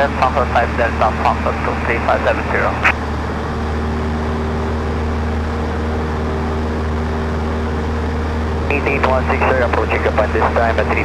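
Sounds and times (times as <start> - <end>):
airplane engine droning: 0.0 - 11.0.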